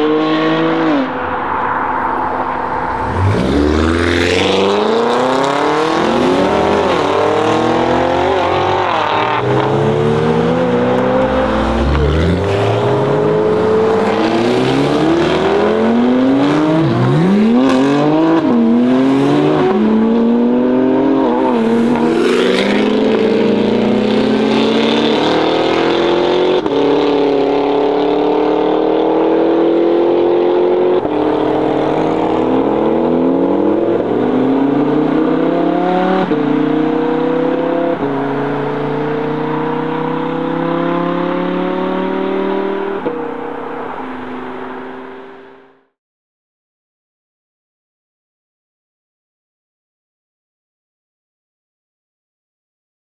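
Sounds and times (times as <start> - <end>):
car engine accelerating hard: 2.4 - 45.8.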